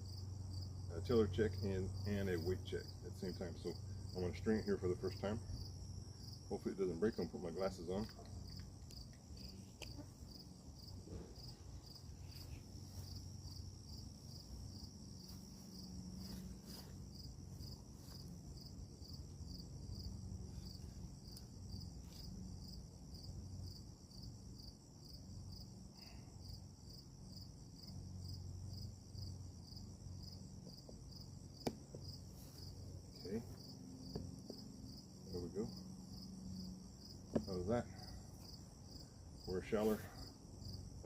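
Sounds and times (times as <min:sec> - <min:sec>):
crickets chirping: 0:00.0 - 0:41.0
faint low hum: 0:00.0 - 0:41.0.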